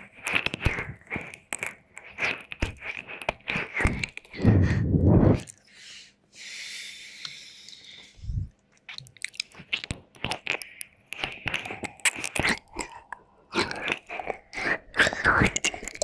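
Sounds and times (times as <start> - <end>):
wet mouth clicks and licking: 0.0 - 4.5, 5.3 - 5.6, 7.2 - 16.0.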